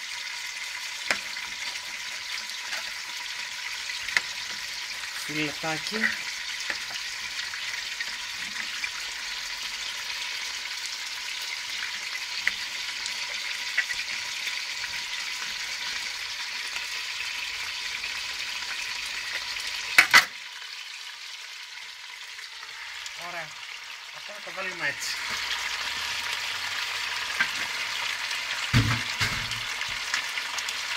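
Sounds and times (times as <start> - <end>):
meat sizzling in oil: 0.0 - 30.9.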